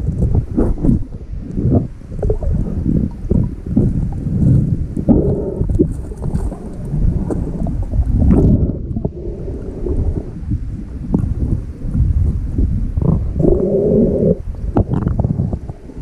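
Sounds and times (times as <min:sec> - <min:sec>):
muffled river water underwater: 0:00.0 - 0:16.0.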